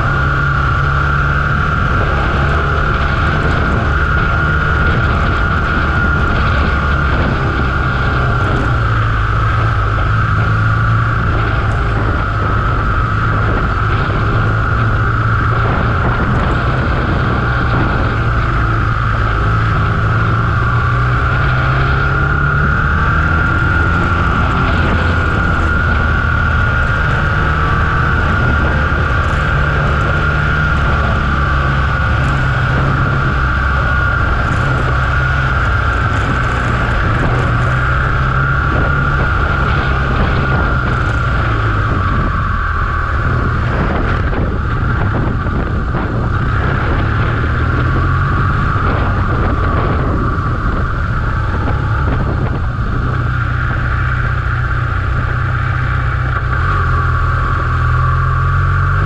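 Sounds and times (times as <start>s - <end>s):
high hum: 0.0s - 59.0s
motorcycle engine running: 0.0s - 59.0s.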